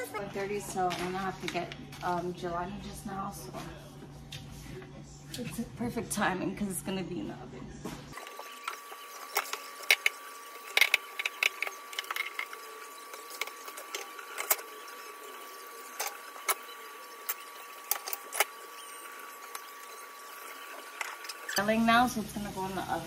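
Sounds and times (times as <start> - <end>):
thin steady whine: 0.0 - 23.0.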